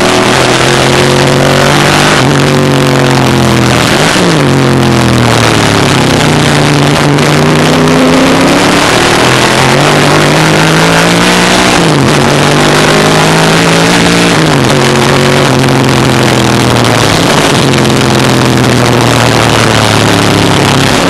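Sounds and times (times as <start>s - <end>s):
race car engine at speed: 0.0s - 21.0s.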